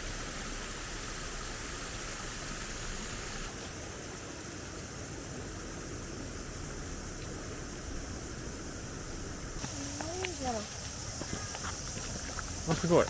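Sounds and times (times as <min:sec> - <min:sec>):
rushing hiss of water: 0:00.0 - 0:13.0.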